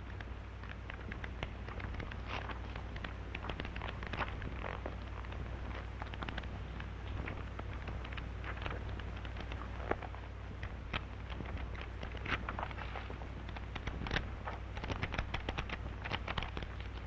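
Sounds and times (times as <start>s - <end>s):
old soundtrack crackling and clicks: 0.0s - 17.0s
steady low hum: 0.0s - 17.0s.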